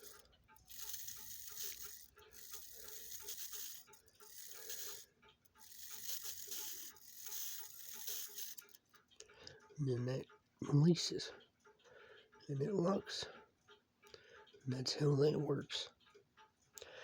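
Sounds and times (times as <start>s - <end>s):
clock movement clicking faintly: 0.0s - 17.0s.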